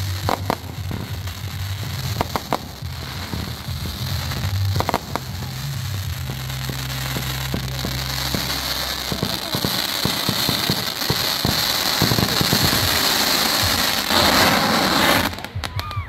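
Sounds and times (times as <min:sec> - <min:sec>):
steady hiss: 0:00.0 - 0:15.5
fireworks crackling and popping: 0:00.0 - 0:16.0.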